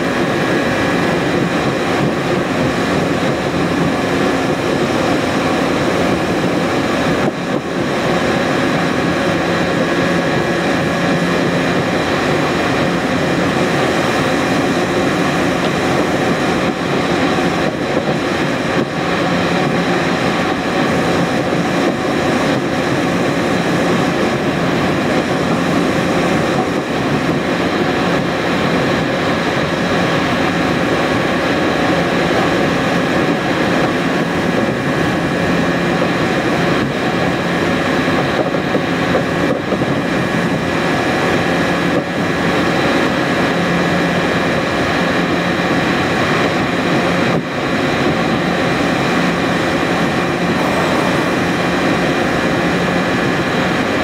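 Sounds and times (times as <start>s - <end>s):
low engine hum: 0.0s - 54.0s
road noise inside car: 0.0s - 54.0s
wind noise: 0.0s - 54.0s.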